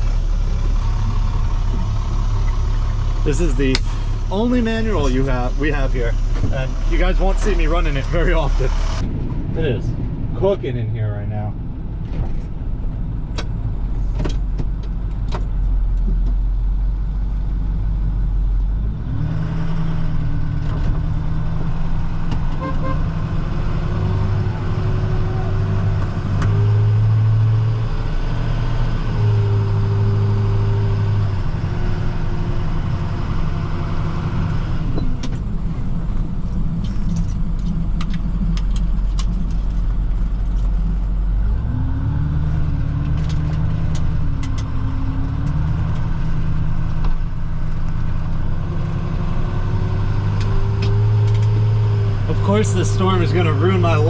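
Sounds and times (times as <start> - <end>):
truck engine droning: 0.0 - 54.0.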